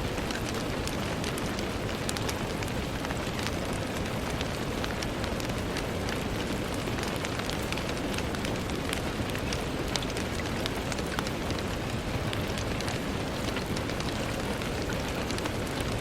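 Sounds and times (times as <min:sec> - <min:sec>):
rain on a window: 0:00.0 - 0:16.0.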